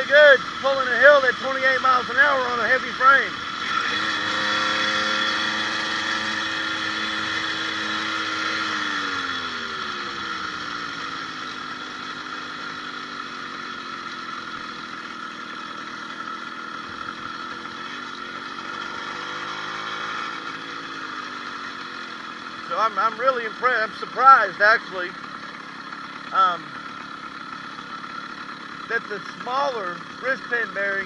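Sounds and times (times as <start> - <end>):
two-stroke bicycle engine running: 0.0 - 31.0.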